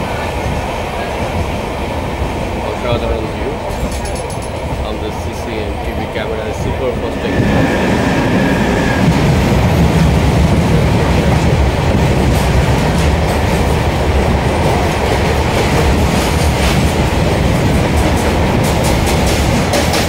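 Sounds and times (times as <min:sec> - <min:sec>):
freight train rushing past: 0:00.0 - 0:20.0
train rumble and wheel clatter: 0:00.0 - 0:20.0.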